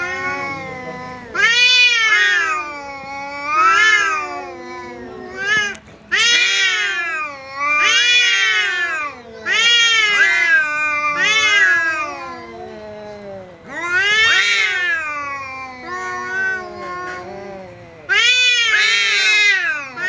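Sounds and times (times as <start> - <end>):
cats yowling: 0.0 - 20.0
low moaning cat yowl: 0.0 - 20.0.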